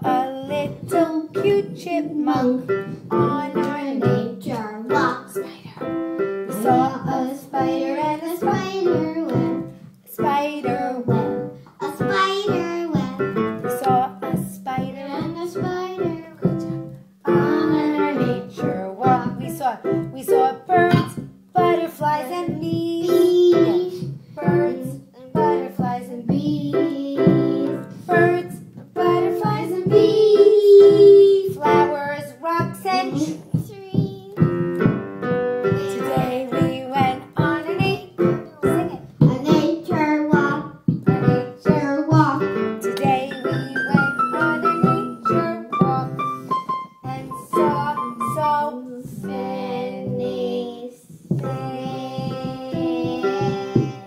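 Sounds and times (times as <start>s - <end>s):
child singing into a microphone: 0.0s - 5.7s, 6.5s - 34.5s, 35.7s - 46.2s, 47.0s - 54.0s
piano accompaniment: 0.0s - 54.0s.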